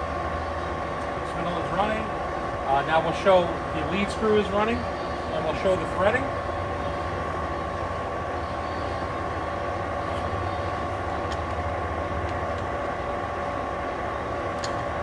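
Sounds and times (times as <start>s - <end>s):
lathe gear whine: 0.0s - 15.0s
low motor hum: 0.0s - 15.0s.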